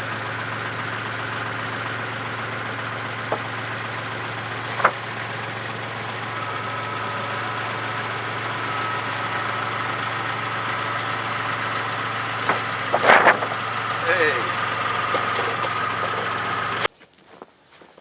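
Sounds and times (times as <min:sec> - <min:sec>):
machine engine idling: 0:00.0 - 0:16.9.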